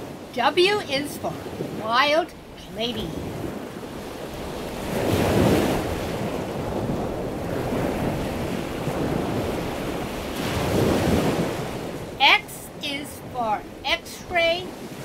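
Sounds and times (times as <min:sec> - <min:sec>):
ocean waves rushing: 0:00.0 - 0:15.0.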